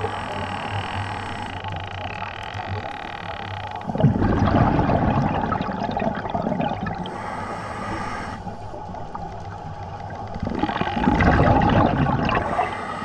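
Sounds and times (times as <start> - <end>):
regulator bubbles underwater: 0.0 - 13.0.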